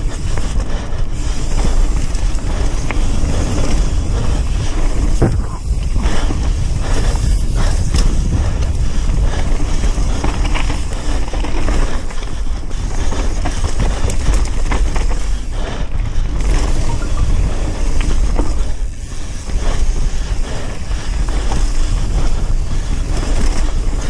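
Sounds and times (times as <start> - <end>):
bike rattling over bumps: 0.0 - 24.0
bike tyres rolling over dirt: 0.0 - 24.0
wind buffeting microphone: 0.0 - 24.0.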